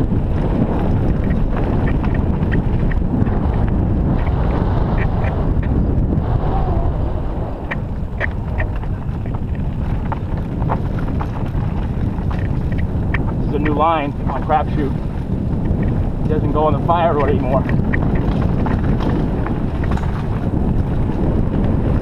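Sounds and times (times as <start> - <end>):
bike clicks and rattles: 0.0 - 6.2, 7.6 - 22.0
tyres rolling on gravel: 0.0 - 22.0
wind over microphone: 0.0 - 22.0.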